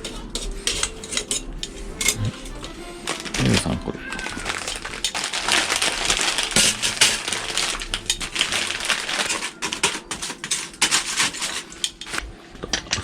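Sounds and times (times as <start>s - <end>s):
rustling: 0.0s - 13.0s
small hard pieces clattering: 0.0s - 13.0s.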